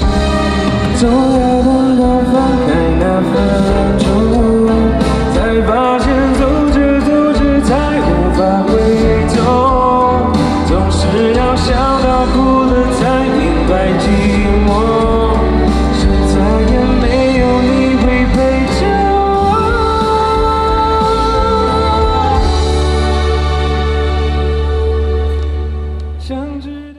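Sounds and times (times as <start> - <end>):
live pop song: 0.0 - 26.9
person singing: 0.0 - 26.9.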